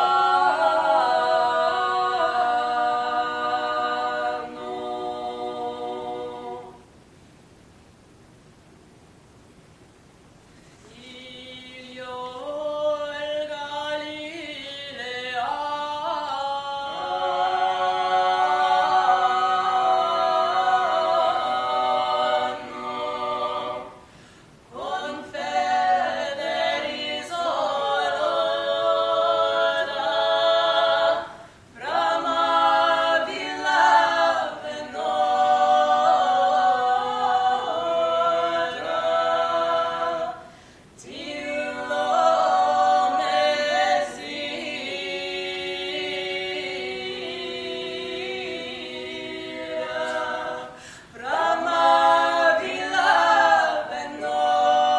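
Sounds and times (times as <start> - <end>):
voices singing in harmony: 0.0 - 7.0, 10.8 - 54.9.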